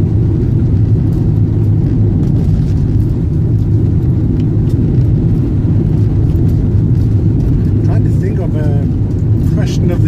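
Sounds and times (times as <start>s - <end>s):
van engine and tyre rumble: 0.0s - 10.0s.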